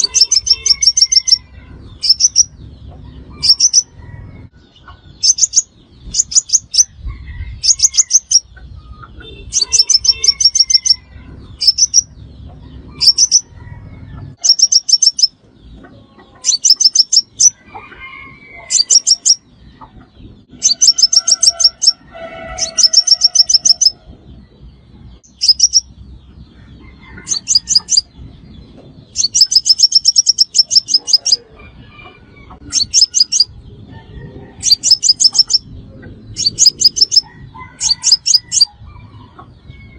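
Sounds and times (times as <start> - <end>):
fainter lower bird calls: 0.0 - 24.2, 25.2 - 28.2, 29.1 - 33.6, 34.5 - 35.7, 36.3 - 39.9
bird twittering song: 0.0 - 39.9.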